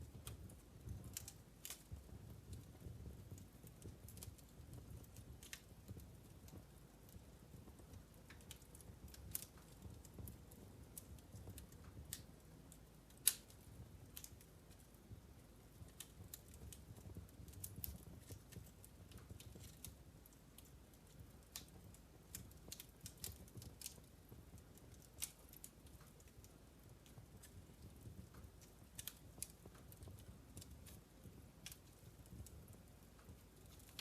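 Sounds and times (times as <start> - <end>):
logs crackling and popping: 0.0 - 34.0
low rumble of flames: 0.0 - 34.0.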